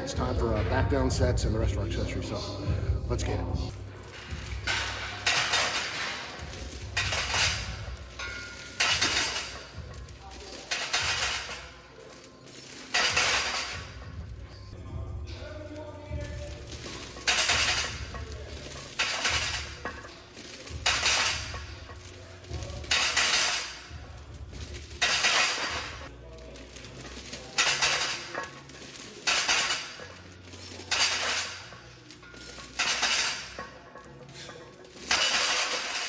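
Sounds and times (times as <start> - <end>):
barbell chains clanking: 4.0 - 14.6, 16.1 - 36.0.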